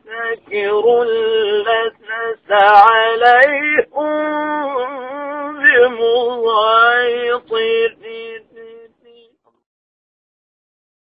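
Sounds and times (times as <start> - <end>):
man reciting melodically: 0.0 - 9.4.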